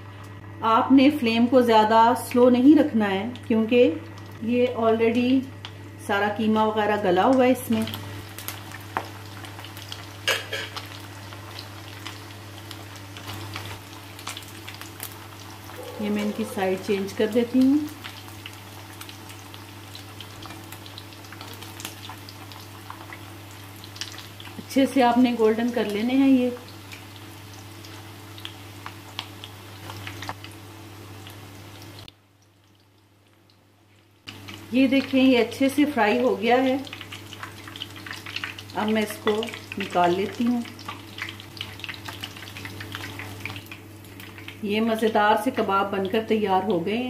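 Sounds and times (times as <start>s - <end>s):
meat sizzling in hot oil: 5.2s - 33.0s, 34.2s - 47.0s.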